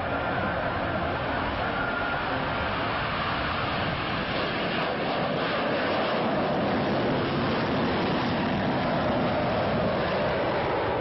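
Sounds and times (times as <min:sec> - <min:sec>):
fighter jets taking off: 0:00.0 - 0:11.0.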